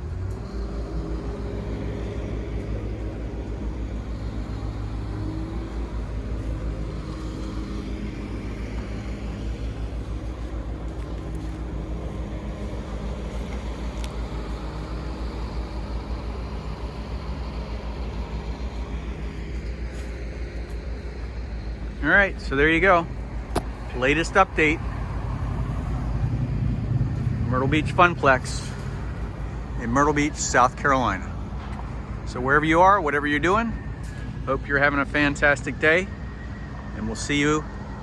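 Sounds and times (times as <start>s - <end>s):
road traffic: 0.0s - 38.0s
vehicle engine throbbing: 0.0s - 38.0s.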